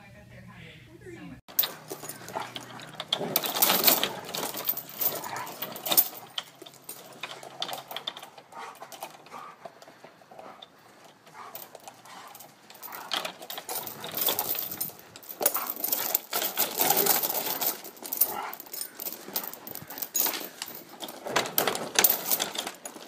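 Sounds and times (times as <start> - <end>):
swing chains rattling: 1.5 - 23.0.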